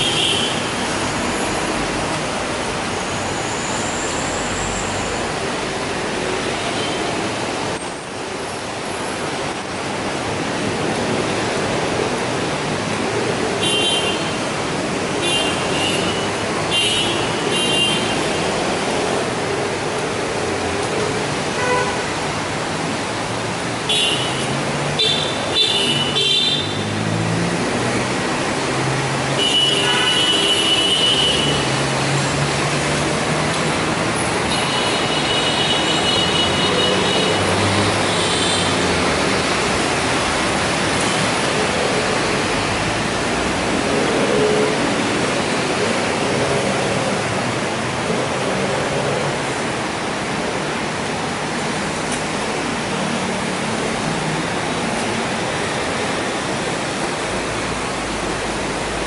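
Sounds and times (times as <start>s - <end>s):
vehicle engines passing: 0.0s - 59.0s.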